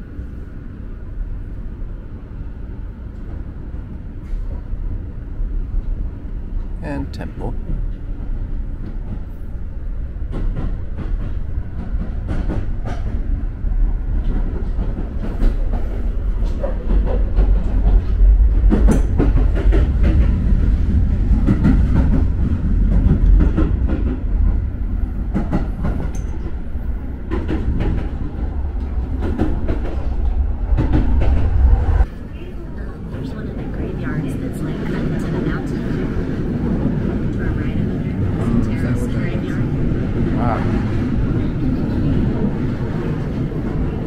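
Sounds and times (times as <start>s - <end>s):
train rumbling inside carriage: 0.0s - 44.0s.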